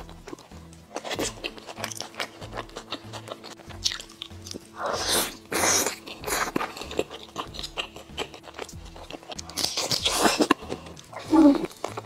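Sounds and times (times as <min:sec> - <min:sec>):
wet chewing clicks: 0:00.0 - 0:04.7, 0:05.7 - 0:12.0
slurping: 0:00.9 - 0:12.0.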